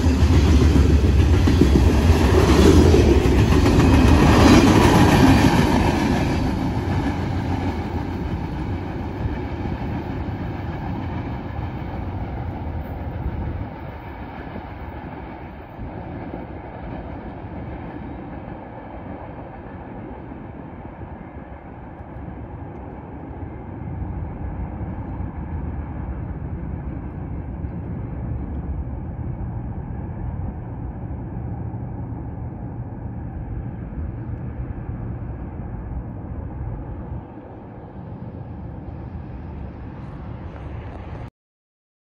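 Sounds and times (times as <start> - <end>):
distant train rumbling: 0.0 - 41.3.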